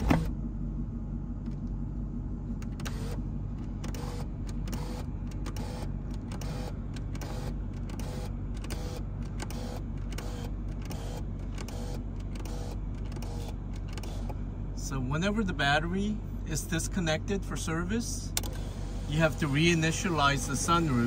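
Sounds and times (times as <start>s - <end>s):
sunroof motor running: 0.0s - 14.8s, 18.4s - 21.0s
car engine idling: 0.0s - 21.0s.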